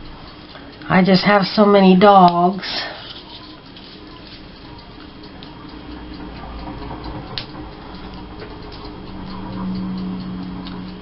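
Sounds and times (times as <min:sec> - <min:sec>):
faint mechanical ticking: 0:00.0 - 0:11.0
low steady hum: 0:00.0 - 0:11.0.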